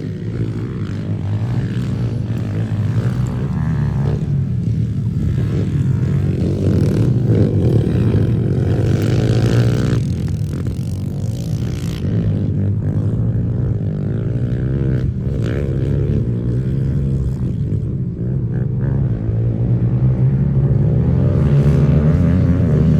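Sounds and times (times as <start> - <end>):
motorbike engine revving: 0.0 - 22.9.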